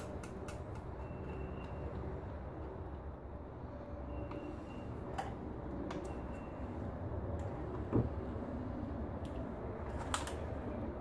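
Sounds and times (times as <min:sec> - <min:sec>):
steady low rumble: 0:00.7 - 0:11.0.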